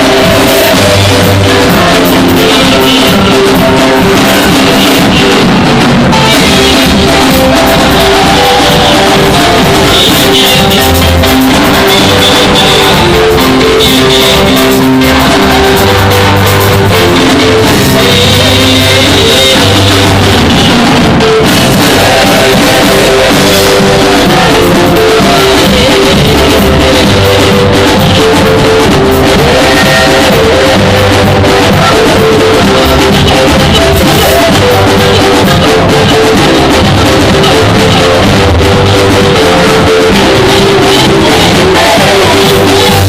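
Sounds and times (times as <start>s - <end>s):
band playing upbeat instrumental: 0.0s - 43.0s.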